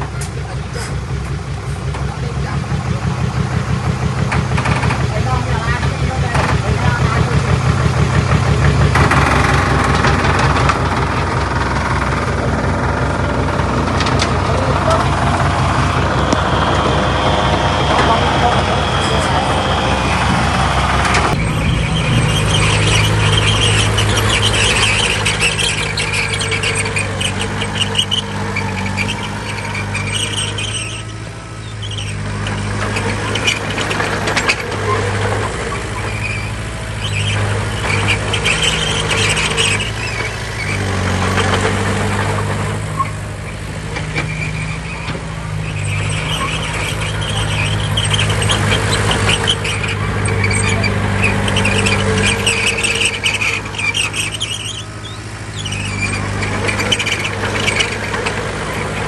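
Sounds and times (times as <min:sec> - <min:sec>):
heavy machinery diesel engine: 0:00.0 - 0:59.0
high-pitched squeal and clatter: 0:00.0 - 0:59.0.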